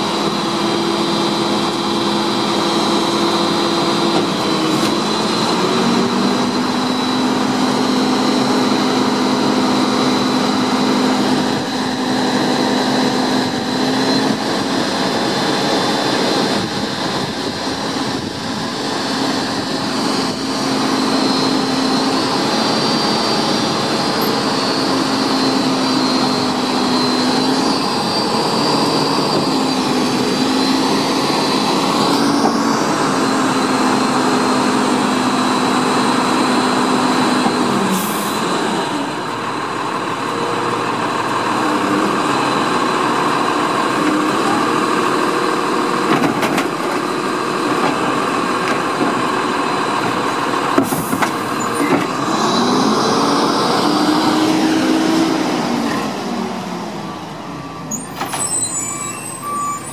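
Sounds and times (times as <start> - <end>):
garbage truck engine running: 0.0 - 59.9.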